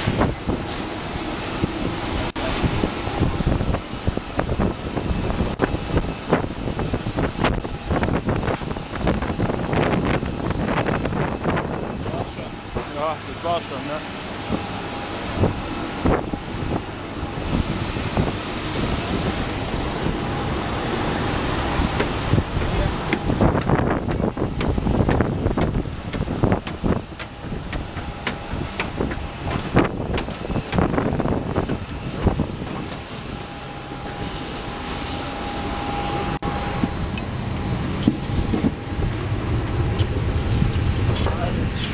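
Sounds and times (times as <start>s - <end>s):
jet aircraft noise: 0.0s - 41.9s
low cabin hum: 0.0s - 41.9s
rushing background noise: 0.0s - 41.9s
thin steady whine: 0.0s - 41.9s
wind buffeting microphone: 0.0s - 41.9s.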